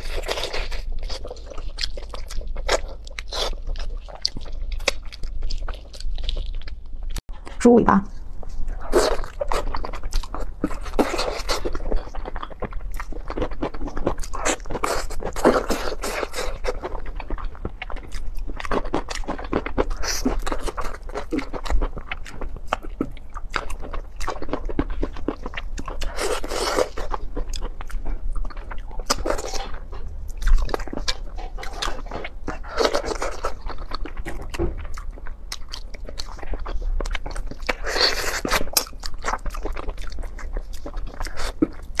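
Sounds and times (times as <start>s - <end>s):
wet chewing and gnawing: 0.0s - 7.6s, 8.2s - 42.0s.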